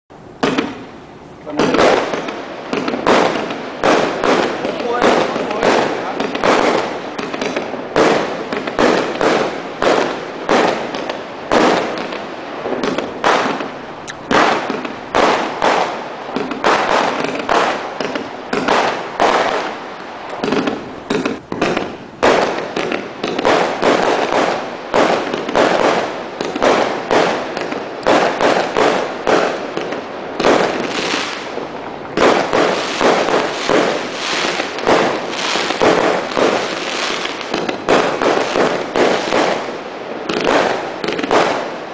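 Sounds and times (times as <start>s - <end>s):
fireworks launching and bursting: 0.3s - 41.9s.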